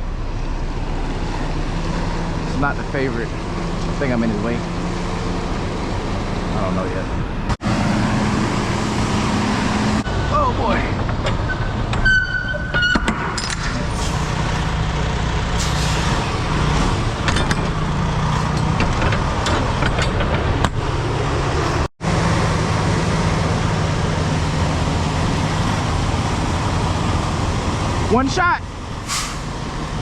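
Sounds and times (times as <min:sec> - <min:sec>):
diesel truck engine running: 0:00.0 - 0:11.9, 0:13.8 - 0:30.0.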